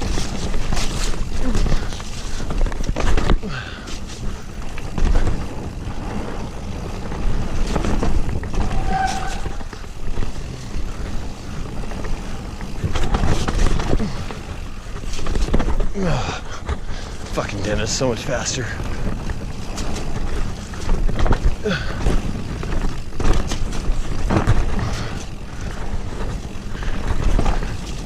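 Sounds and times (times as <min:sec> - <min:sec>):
bike knocks and rattles: 0:00.0 - 0:28.0
bike rushing rumble: 0:00.0 - 0:28.0.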